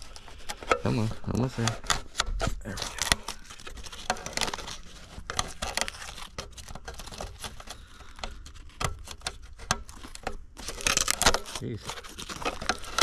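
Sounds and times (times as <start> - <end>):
wrapping material crinkling: 0.0 - 13.0.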